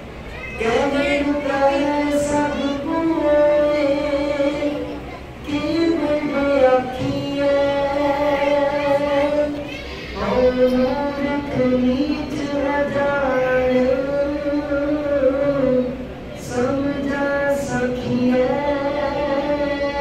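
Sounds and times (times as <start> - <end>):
person chanting scripture: 0.6 - 20.0.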